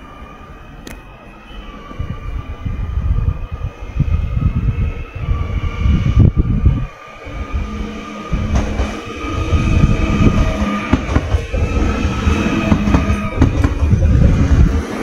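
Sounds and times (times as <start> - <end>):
train wheels rumbling on rail: 0.7 - 15.0.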